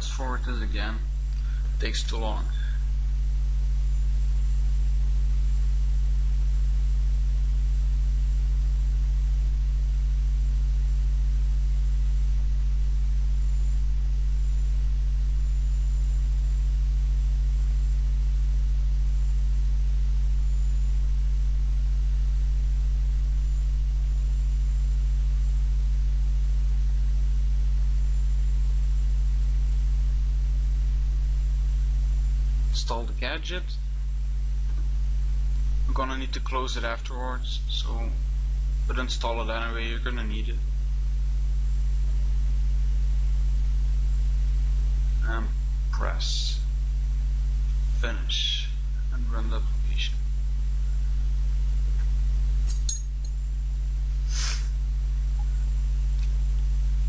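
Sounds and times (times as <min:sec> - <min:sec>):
electrical mains hum: 0:00.0 - 0:57.0
faint high whine: 0:00.0 - 0:57.0.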